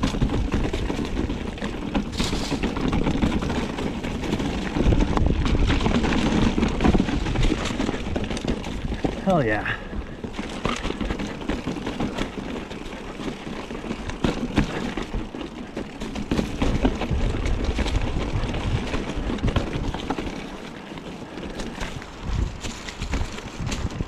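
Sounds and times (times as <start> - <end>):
wind buffeting microphone: 0.0 - 20.5, 21.3 - 24.0
bike frame rattling and knocking: 0.0 - 24.0.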